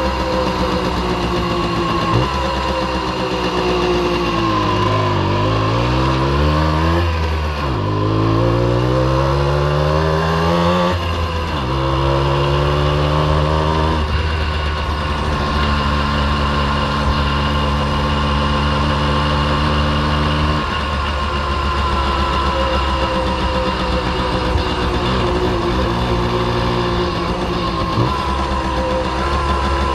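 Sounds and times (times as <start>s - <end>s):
moped engine revving: 0.0s - 29.9s.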